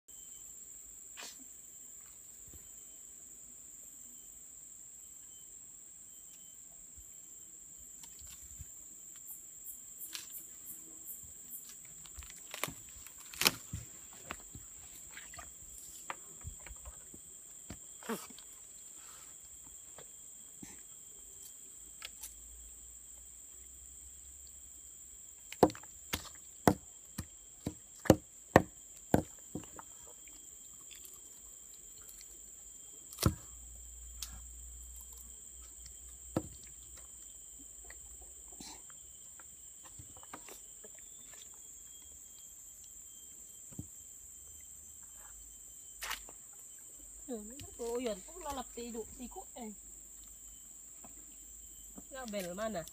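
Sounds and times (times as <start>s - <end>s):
insect drone: 0.1s - 52.9s.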